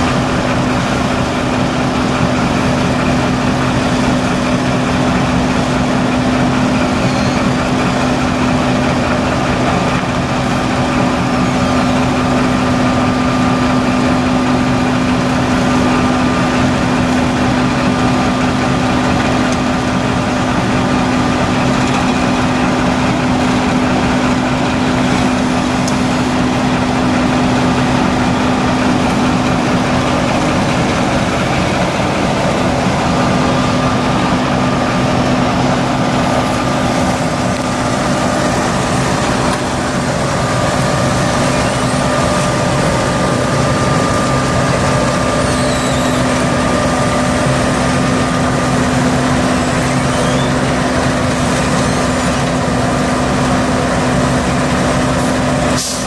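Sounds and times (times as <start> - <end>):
asphalt paver droning: 0.0 - 56.0
dump truck running: 0.0 - 56.0.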